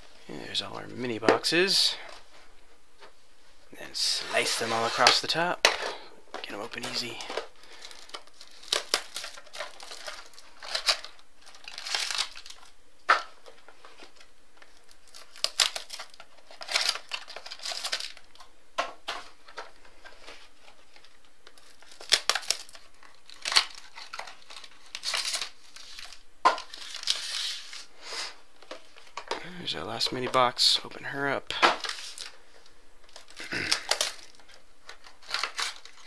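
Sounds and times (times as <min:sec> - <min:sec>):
crinkling and scraping rustles: 0:00.0 - 0:36.0.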